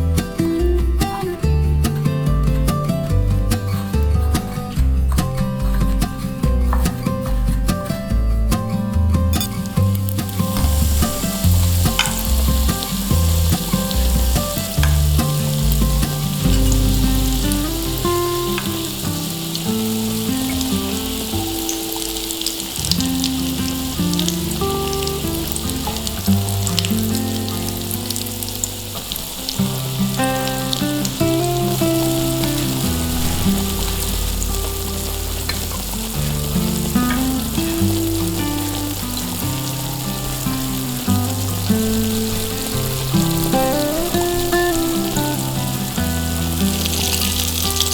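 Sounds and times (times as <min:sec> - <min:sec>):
potato cakes sizzling in a pan: 0:09.3 - 0:47.9.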